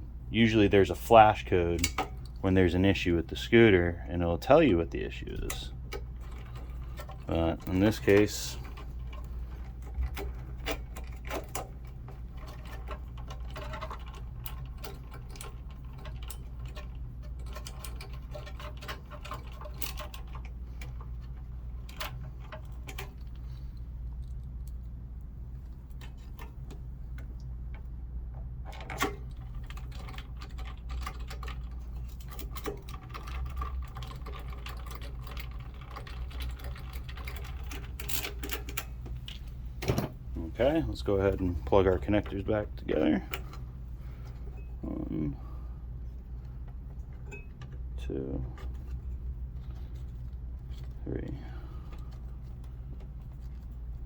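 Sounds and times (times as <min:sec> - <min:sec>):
low background hum: 0:00.0 - 0:54.0.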